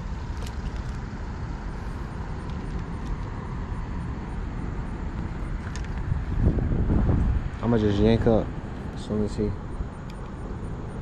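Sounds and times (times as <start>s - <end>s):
low outdoor background rumble: 0.0s - 11.0s.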